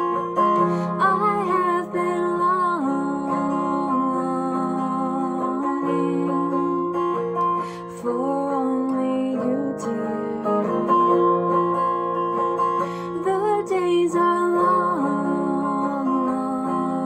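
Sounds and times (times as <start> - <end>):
person singing: 0.0 - 11.9, 12.6 - 17.0
electric guitar strumming chords: 0.0 - 17.0.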